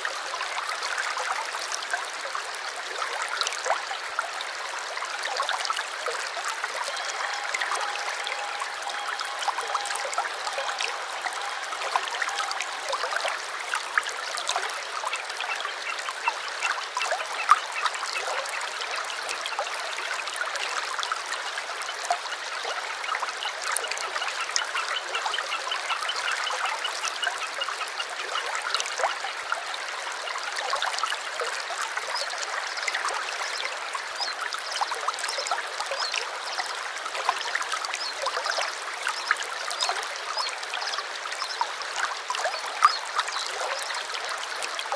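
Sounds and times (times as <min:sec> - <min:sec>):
stream babbling over stones: 0:00.0 - 0:44.9.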